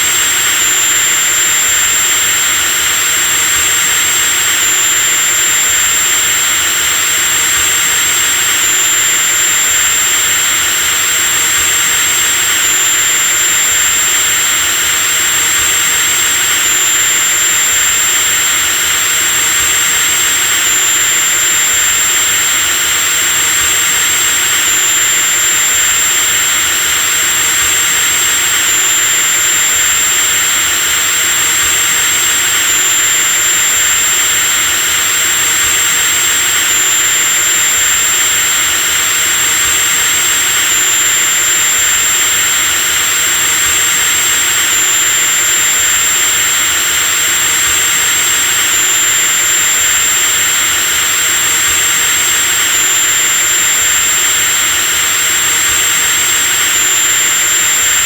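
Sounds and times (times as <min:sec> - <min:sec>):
electric drill motor whining: 0:00.0 - 0:58.0.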